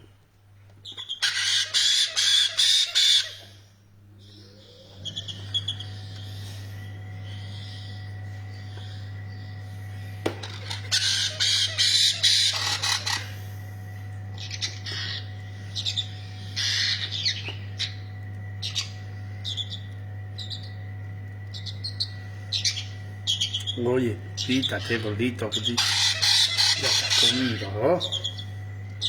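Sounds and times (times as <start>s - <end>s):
steady low hum: 0.0s - 29.0s
parrot chicks squawking: 0.8s - 13.6s, 14.3s - 29.0s.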